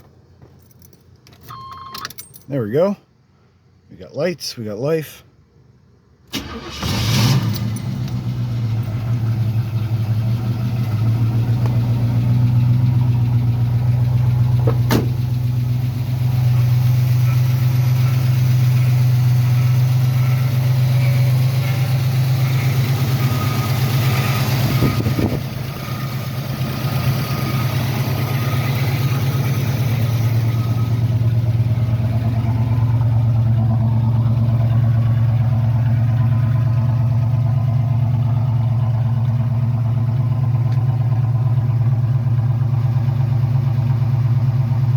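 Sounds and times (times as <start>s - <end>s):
car engine running: 7.6s - 44.9s.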